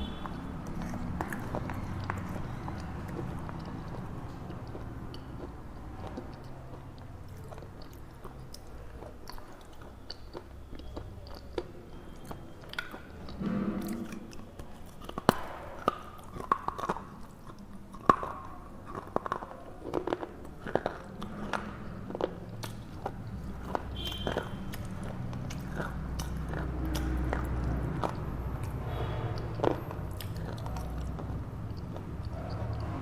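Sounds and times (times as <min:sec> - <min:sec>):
slate being chewed and crunched: 0:00.0 - 0:33.0.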